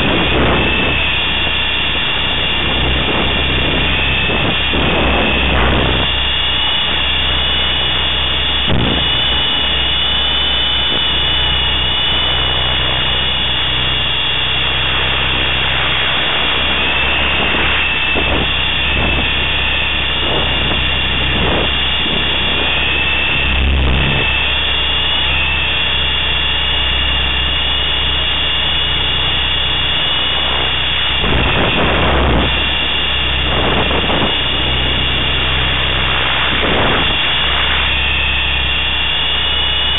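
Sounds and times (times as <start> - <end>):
low rotor drone: 0.0 - 39.9
rc helicopter motor whine: 0.0 - 39.9.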